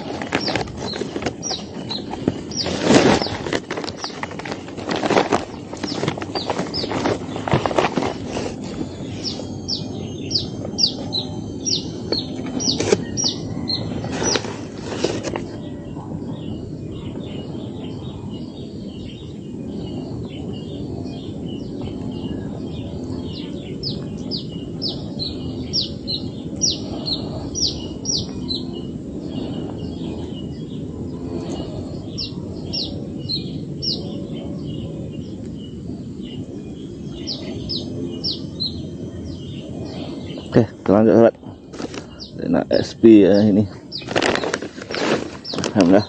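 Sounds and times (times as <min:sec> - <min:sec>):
low outdoor background hum: 0:00.0 - 0:46.0.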